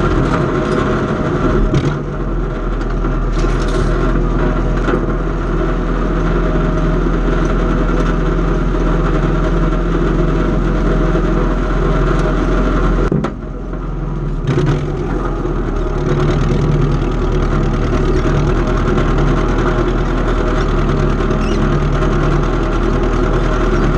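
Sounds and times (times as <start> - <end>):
farm machine engine running: 0.0 - 23.9.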